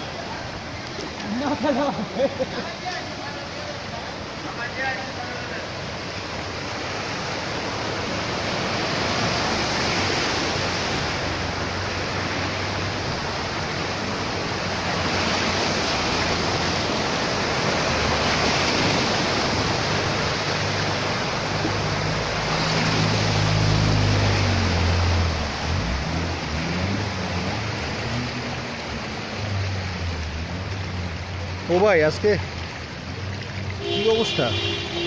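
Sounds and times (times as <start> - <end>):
rain and floodwater rushing: 0.0 - 35.0.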